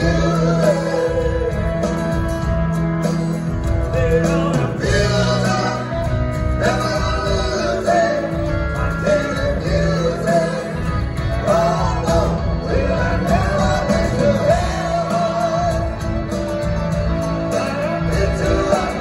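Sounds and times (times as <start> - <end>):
male vocals: 0.0 - 1.9, 3.9 - 16.3, 17.5 - 19.0
acoustic guitars: 0.0 - 19.0
drums: 0.0 - 19.0
electric bass: 0.0 - 19.0
organ: 0.0 - 19.0.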